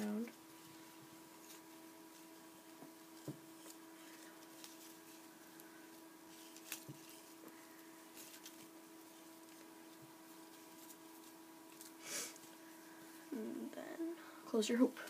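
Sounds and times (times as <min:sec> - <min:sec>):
faint steady hum: 0:00.0 - 0:15.0
soft handling clicks and rustles: 0:00.5 - 0:12.6.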